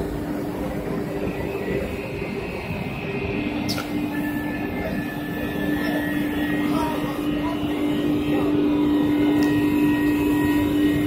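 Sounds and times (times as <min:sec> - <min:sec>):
dust extraction hum: 0:00.0 - 0:11.0.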